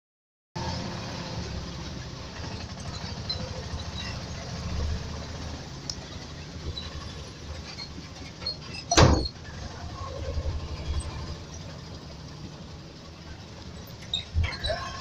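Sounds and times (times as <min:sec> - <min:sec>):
vehicle rumble from inside: 0:00.6 - 0:15.0.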